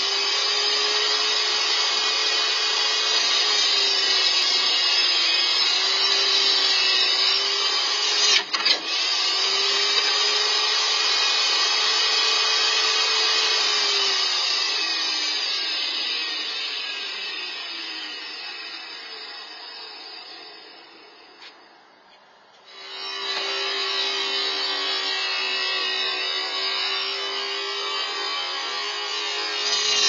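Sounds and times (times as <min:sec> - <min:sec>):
table saw running: 0:00.0 - 0:21.7, 0:22.6 - 0:30.0.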